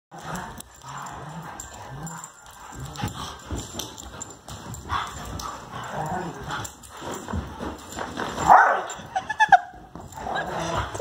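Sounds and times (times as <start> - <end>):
dogs growling: 0.1 - 8.6, 10.0 - 11.0
paws and bodies scuffling: 0.2 - 11.0.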